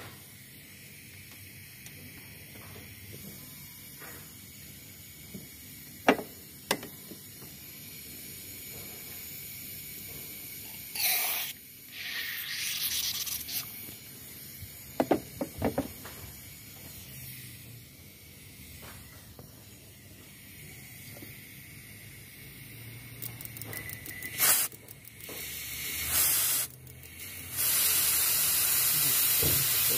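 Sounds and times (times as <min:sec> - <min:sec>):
aerosol spray hissing: 0:04.8 - 0:24.7, 0:25.3 - 0:29.9.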